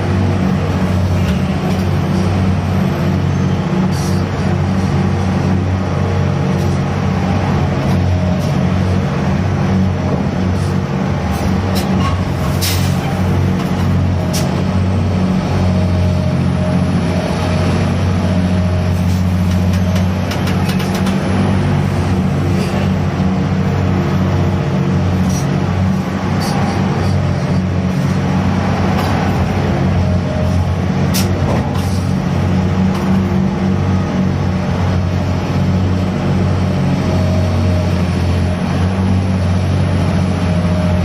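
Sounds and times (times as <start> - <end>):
crane diesel engine running: 0.0 - 41.0.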